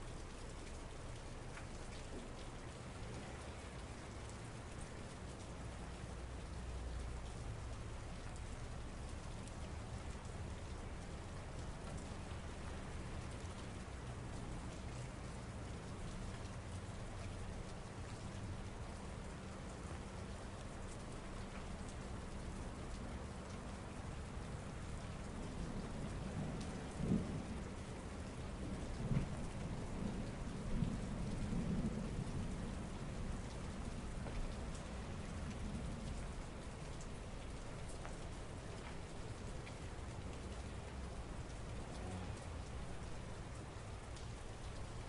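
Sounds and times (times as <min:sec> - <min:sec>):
patter of raindrops: 0:00.0 - 0:45.0
rain hissing on hard surfaces: 0:00.0 - 0:45.0.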